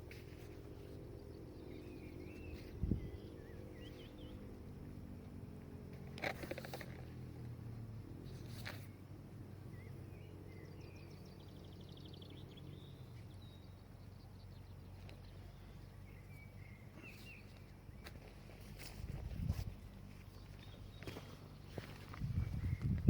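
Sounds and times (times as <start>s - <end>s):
steady low rumble: 0.0s - 6.0s, 7.2s - 23.0s
small birds chirping: 0.0s - 23.0s.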